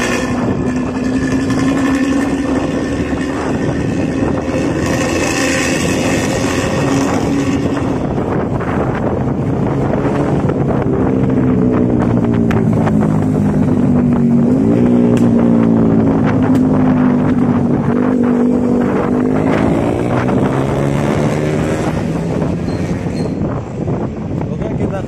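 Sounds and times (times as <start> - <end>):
bus diesel engine growling: 0.0 - 25.0.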